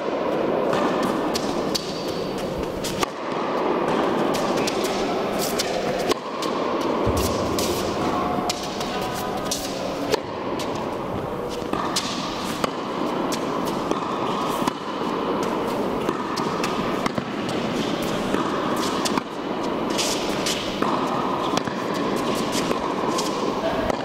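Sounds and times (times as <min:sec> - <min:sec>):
steady background noise: 0:00.0 - 0:24.0
tennis balls struck by rackets: 0:00.3 - 0:24.0.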